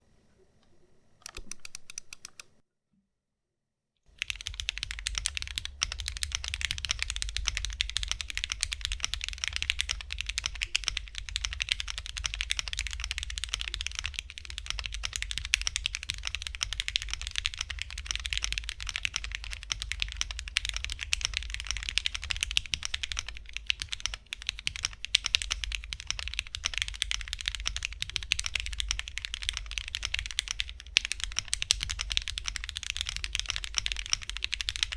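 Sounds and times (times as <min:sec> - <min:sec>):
mechanical keyboard typing: 0:01.2 - 0:02.5, 0:04.1 - 0:34.9.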